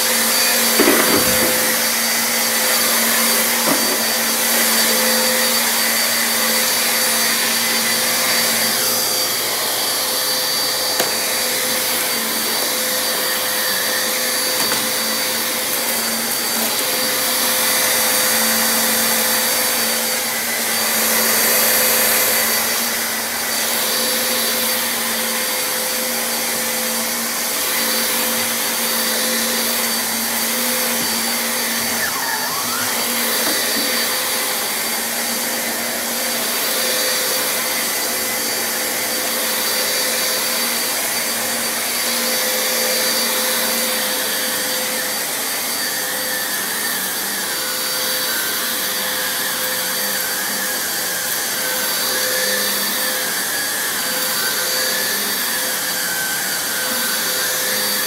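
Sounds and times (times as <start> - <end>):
upright vacuum cleaner running: 0.0 - 58.0.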